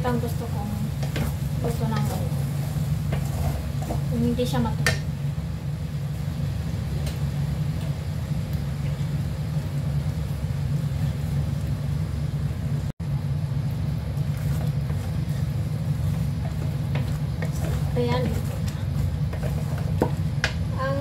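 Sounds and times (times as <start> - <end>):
gas stove burner rumble: 0.0 - 21.0
stew simmering: 0.0 - 21.0.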